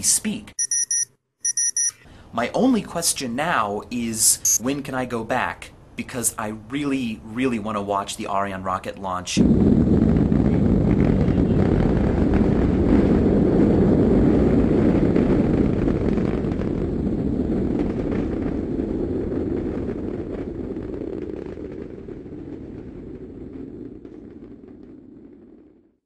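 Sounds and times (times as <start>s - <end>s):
rocket engines rumbling: 2.4s - 25.7s.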